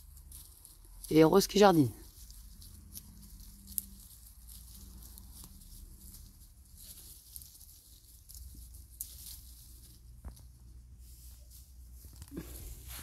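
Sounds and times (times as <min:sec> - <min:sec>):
puppies rustling in grass: 0:00.0 - 0:13.0.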